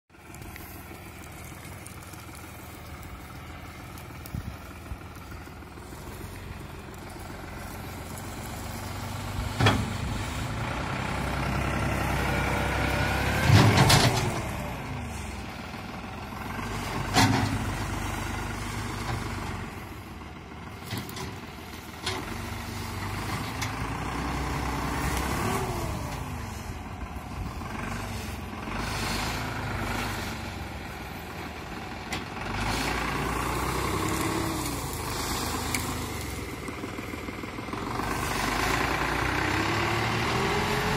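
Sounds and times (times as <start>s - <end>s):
tractor diesel engine under load: 0.1s - 40.9s.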